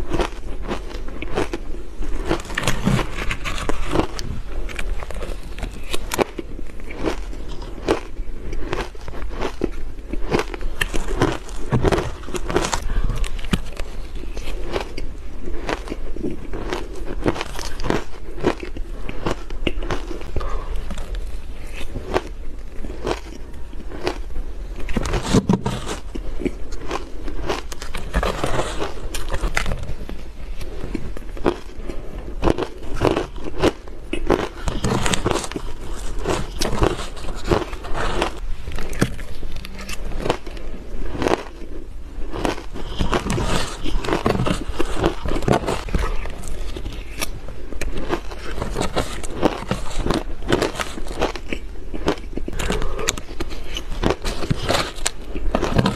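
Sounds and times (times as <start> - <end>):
chewing crunchy shaved ice: 0.0 - 55.9.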